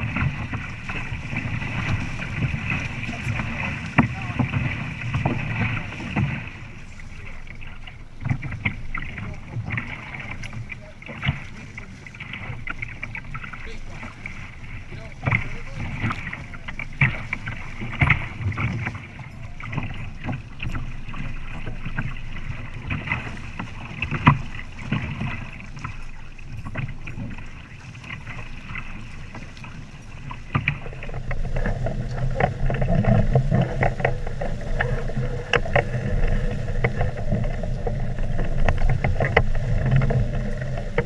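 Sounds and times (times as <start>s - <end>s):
low rumble of wind and water: 0.0s - 41.0s
water splashing against hulls: 0.0s - 41.0s.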